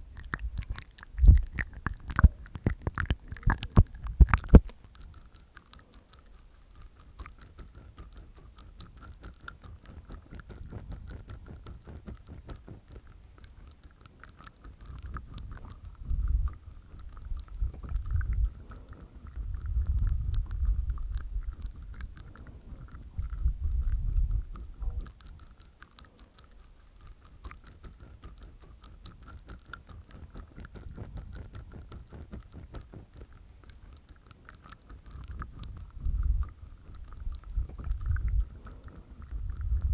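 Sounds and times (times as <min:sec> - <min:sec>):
low muffled mouth sounds: 0:00.0 - 0:39.9
wet tongue and teeth clicks: 0:00.0 - 0:39.9.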